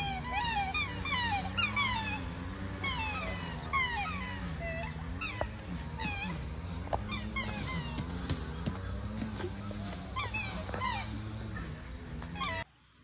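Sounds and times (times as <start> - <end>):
birds whistling calls: 0.0 - 12.9.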